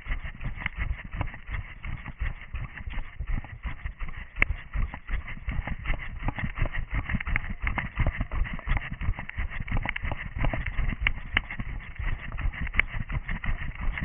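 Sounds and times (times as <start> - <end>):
running footsteps: 0.0 - 14.0.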